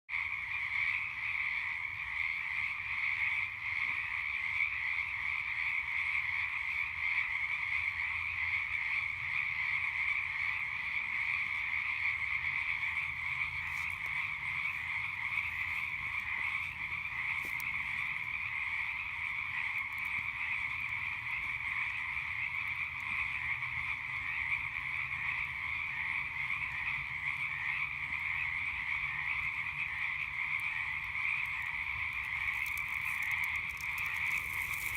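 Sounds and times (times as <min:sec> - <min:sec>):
chorus of frogs calling: 0:00.1 - 0:34.9.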